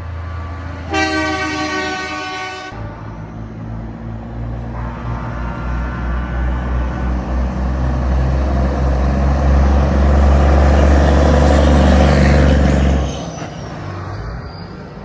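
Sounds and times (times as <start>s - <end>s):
heavy truck engine driving past: 0.0s - 15.0s.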